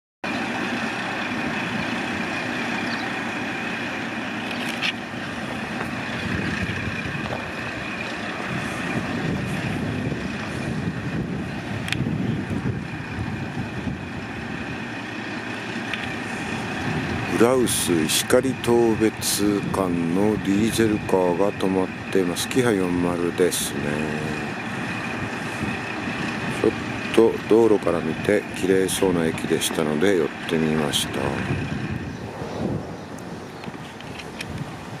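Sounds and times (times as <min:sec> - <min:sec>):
diesel railcar engine idling: 0:00.2 - 0:35.0.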